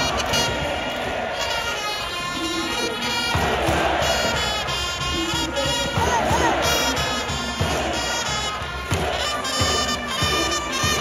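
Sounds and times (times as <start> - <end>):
upbeat brass-led music: 0.0 - 11.0.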